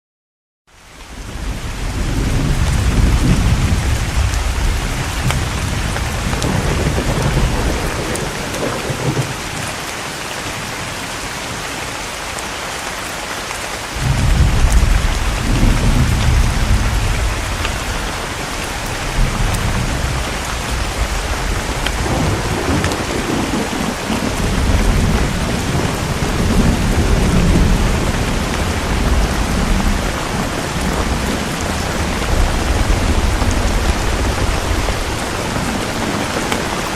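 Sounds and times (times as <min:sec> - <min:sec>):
steady rain falling: 0:00.7 - 0:36.9
deep rolling thunder: 0:01.2 - 0:09.7, 0:14.0 - 0:36.9.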